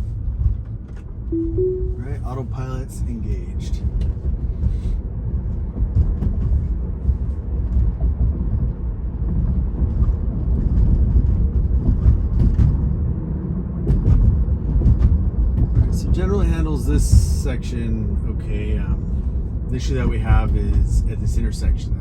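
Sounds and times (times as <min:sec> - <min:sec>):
road and tyre noise in car: 0:00.0 - 0:22.0.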